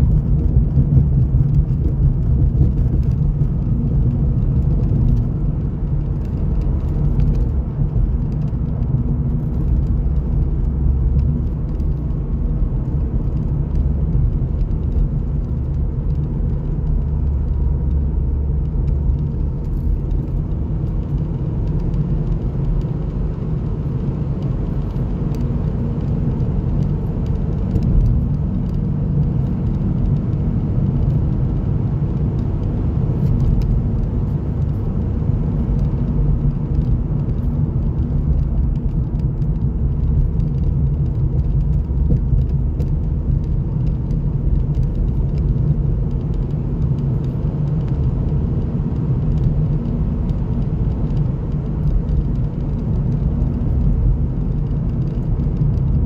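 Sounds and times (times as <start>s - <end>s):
car driving from inside cabin: 0.0s - 56.0s.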